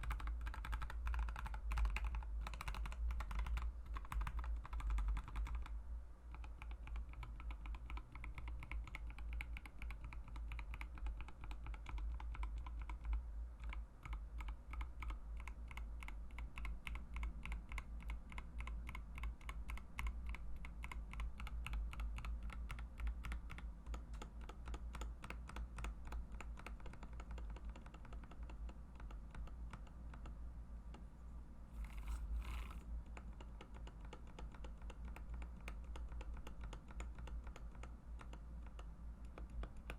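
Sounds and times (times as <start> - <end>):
mechanical keyboard typing: 0.0 - 30.4, 31.8 - 39.9.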